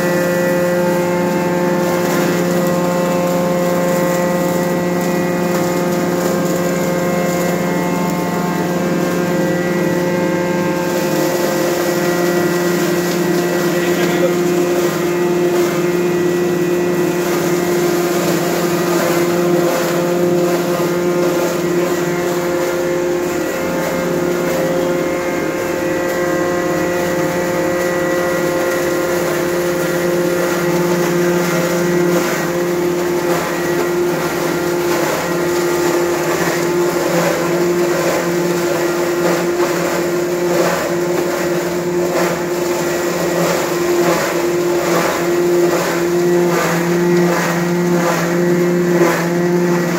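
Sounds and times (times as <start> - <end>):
grinding machine motor humming: 0.0 - 49.9.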